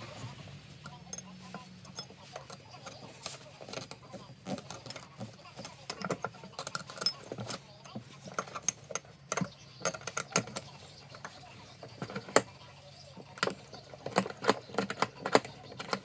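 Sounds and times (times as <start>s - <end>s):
metallic clicks and clinks: 0.8s - 16.0s.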